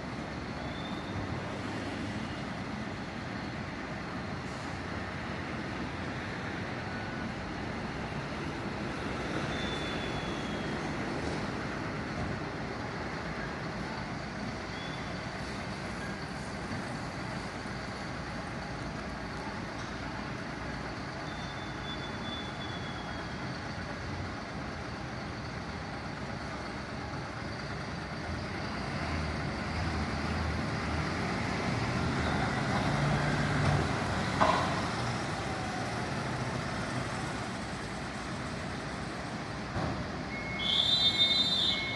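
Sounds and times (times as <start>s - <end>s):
heavy vehicle engine rumble: 0.0s - 41.9s
street and vehicle noise: 0.0s - 41.9s.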